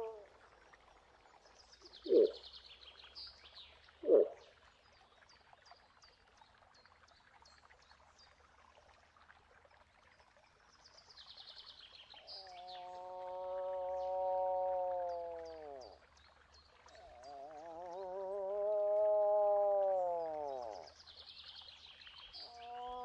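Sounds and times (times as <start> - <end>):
faint bird chirps and trills: 0.0 - 8.4, 10.6 - 23.0.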